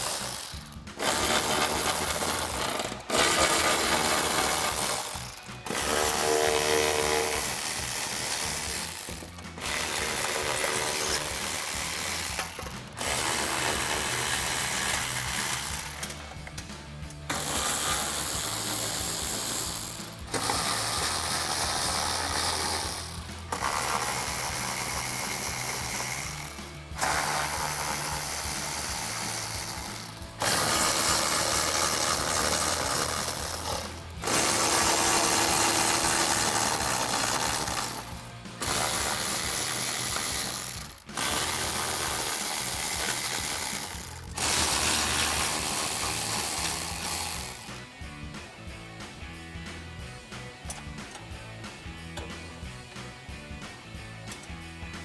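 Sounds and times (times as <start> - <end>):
electric ratchet running: 0.0 - 16.6, 17.3 - 47.8.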